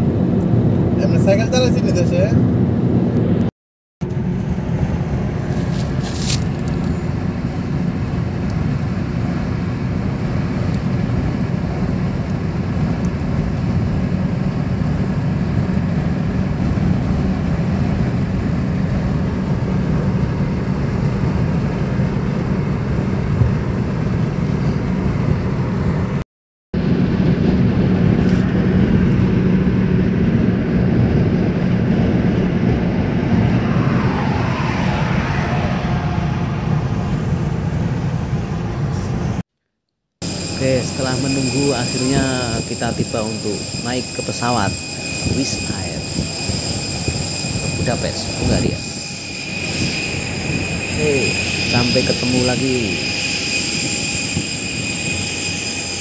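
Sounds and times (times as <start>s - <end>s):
car road and engine drone: 0.0s - 26.2s, 26.8s - 39.5s, 40.2s - 56.0s.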